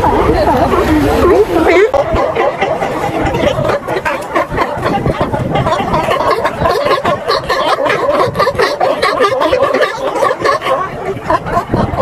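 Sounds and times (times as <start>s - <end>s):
sea lions barking and growling: 0.0s - 12.0s.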